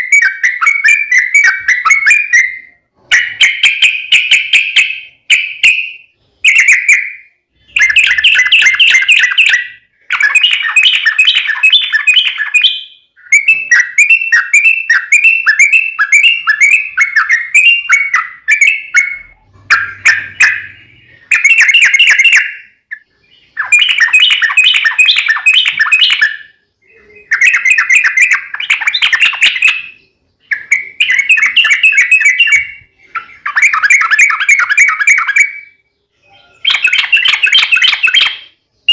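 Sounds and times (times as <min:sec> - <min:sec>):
bird singing bubbling phrases: 0:00.0 - 0:38.9.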